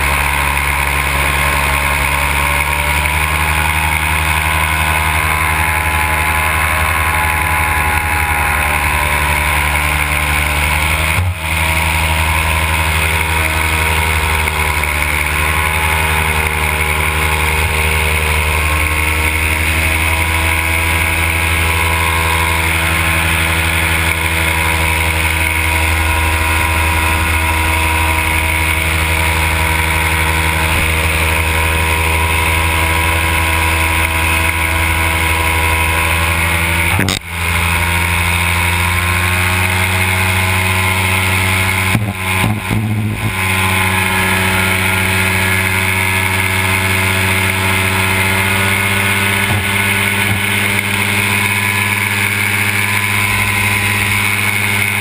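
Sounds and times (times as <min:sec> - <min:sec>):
paramotor engine running: 0:00.0 - 0:55.0.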